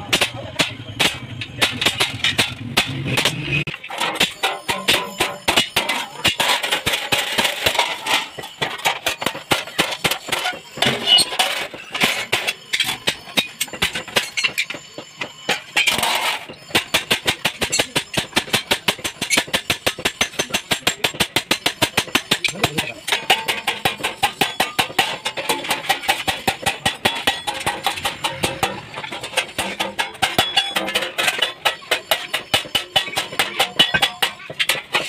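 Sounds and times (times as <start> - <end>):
hammer striking metal: 0.0 - 35.0.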